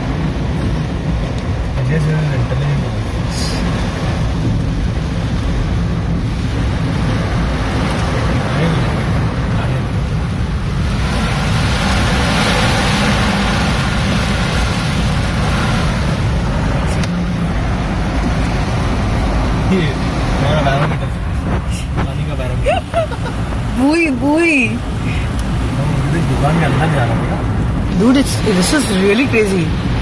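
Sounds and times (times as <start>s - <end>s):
road traffic: 0.0s - 30.0s
vehicle passing close: 3.4s - 30.0s.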